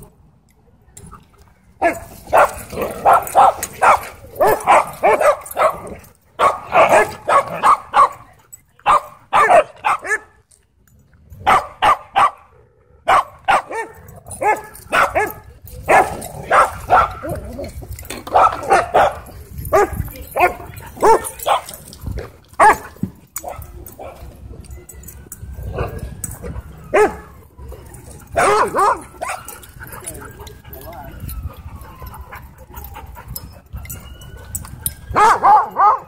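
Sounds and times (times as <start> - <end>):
dogs barking and yipping: 1.8 - 10.4, 11.4 - 36.0.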